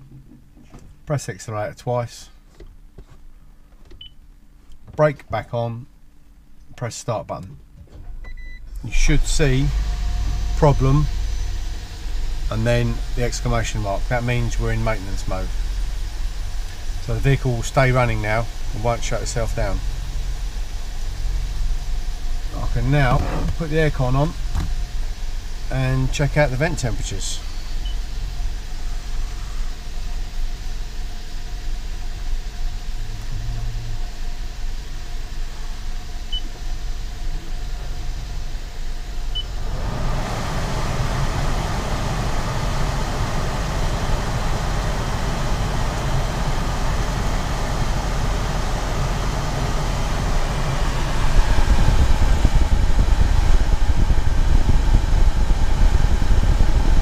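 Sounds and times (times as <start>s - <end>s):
blower fan rushing air: 4.8s - 57.0s
car engine idling: 7.6s - 57.0s.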